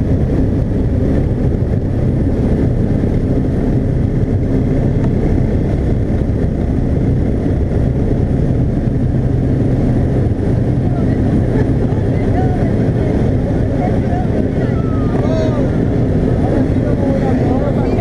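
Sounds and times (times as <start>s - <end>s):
propeller engine running: 0.0s - 18.0s
wind rushing over camera: 0.0s - 18.0s.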